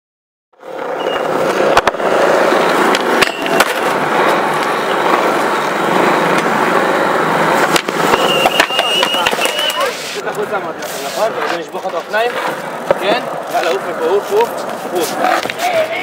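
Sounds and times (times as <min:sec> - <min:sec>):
skateboard clacks: 0:00.6 - 0:16.0
skateboard wheels rolling on pavement: 0:00.6 - 0:16.0.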